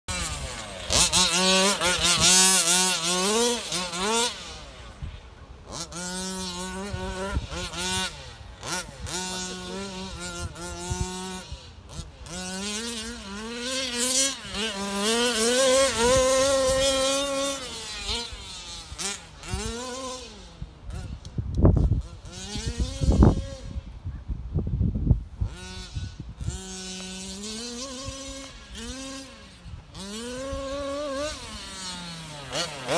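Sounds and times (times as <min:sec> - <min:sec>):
small two-stroke engine revving: 0:00.1 - 0:24.4, 0:25.0 - 0:32.9.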